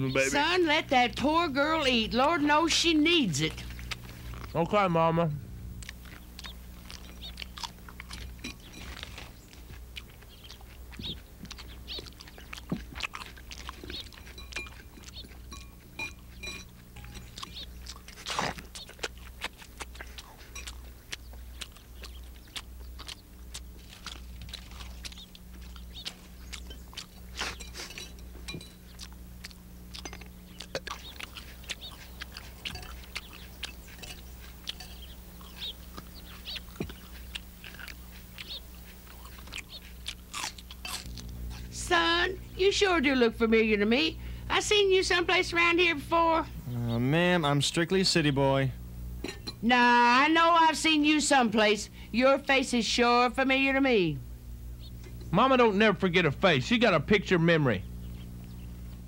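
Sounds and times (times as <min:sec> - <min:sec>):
people chewing and crunching food: 0:00.0 - 0:59.0
steady low hum: 0:00.0 - 0:59.0.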